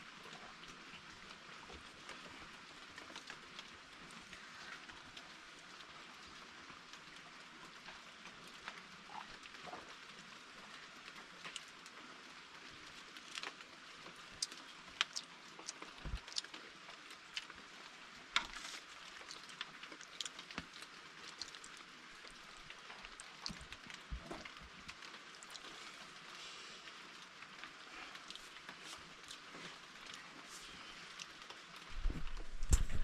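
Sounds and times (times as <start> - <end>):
rain falling steadily: 0.0 - 33.0
sharp raindrops striking: 0.0 - 33.0.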